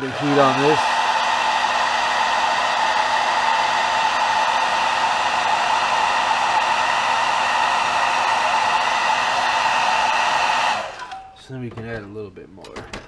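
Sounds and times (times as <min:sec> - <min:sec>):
hair dryer running: 0:00.0 - 0:11.2.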